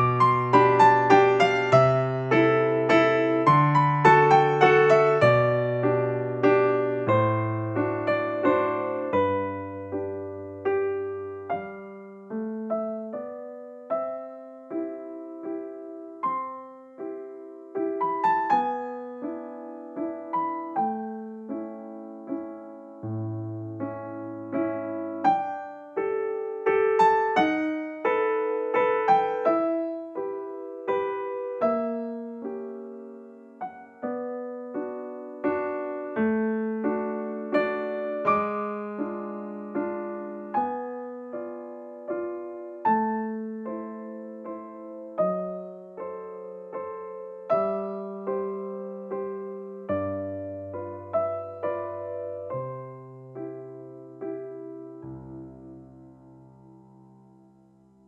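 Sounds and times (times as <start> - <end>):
soft piano music: 0.0 - 58.0.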